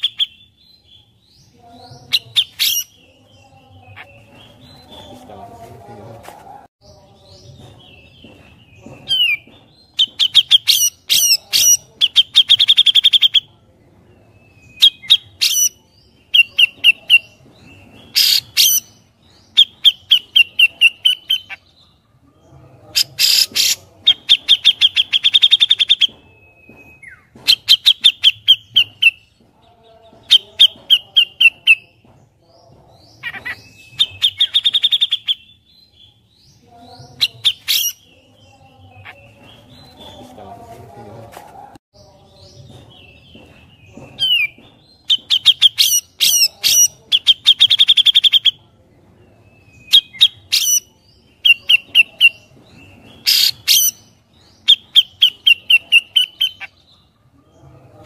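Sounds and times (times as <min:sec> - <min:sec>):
bird chattering song: 0:00.0 - 0:05.8, 0:06.8 - 0:41.1, 0:42.0 - 0:48.8, 0:49.4 - 0:58.0.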